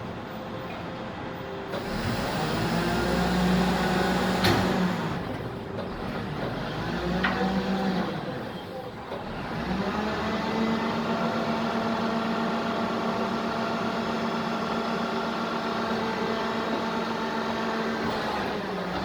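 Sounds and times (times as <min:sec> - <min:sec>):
garbage truck engine droning: 0:00.0 - 0:19.0.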